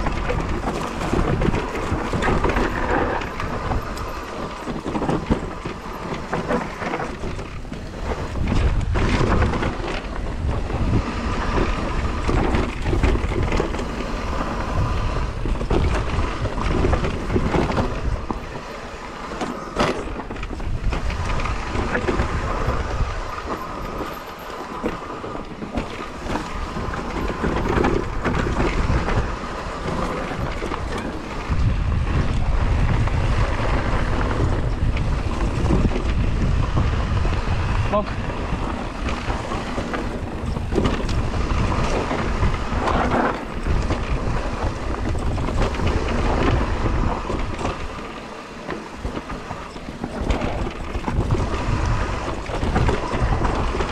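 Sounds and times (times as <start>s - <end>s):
bike knocks and rattles: 0.0s - 53.9s
bike tyre and frame rumble: 0.0s - 53.9s
wind buffeting microphone: 0.0s - 53.9s.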